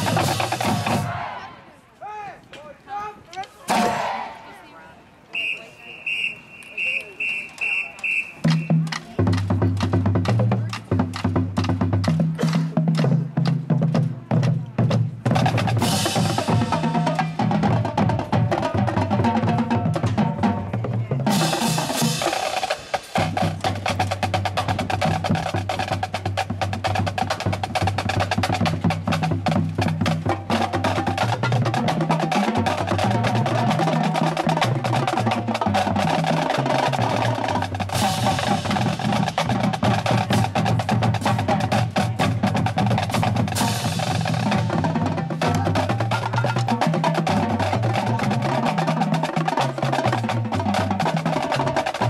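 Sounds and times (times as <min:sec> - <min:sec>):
bass drums: 0:00.0 - 0:01.3, 0:08.4 - 0:52.0
snare drum strokes and rolls: 0:00.0 - 0:01.4, 0:03.7 - 0:04.4, 0:06.1 - 0:52.0.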